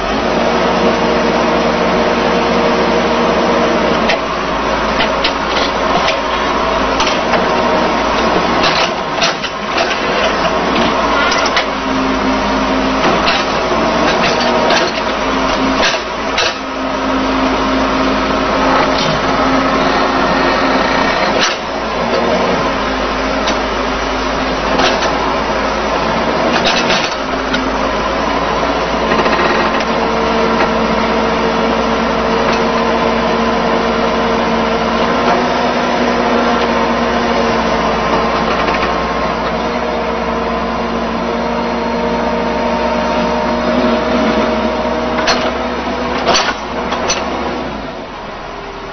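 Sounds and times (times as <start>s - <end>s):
excavator engine and hydraulics: 0.0s - 48.9s.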